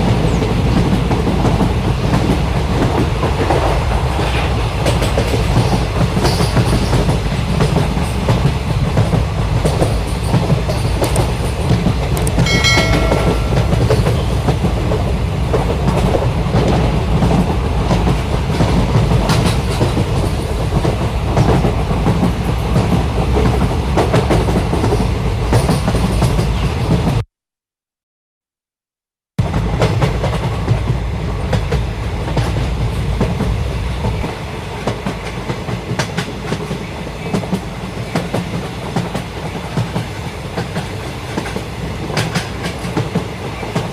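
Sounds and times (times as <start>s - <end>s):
clickety-clack of train wheels: 0.0s - 27.2s, 29.4s - 43.9s
train rumbling on track: 0.0s - 27.2s, 29.4s - 43.9s.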